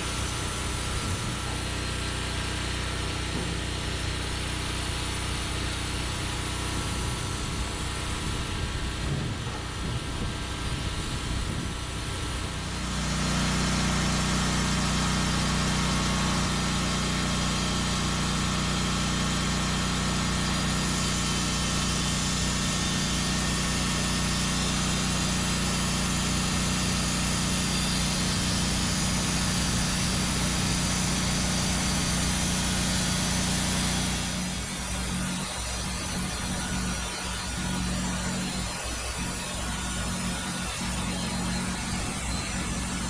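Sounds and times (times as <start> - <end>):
gas engine running with low hum: 0.0 - 43.0.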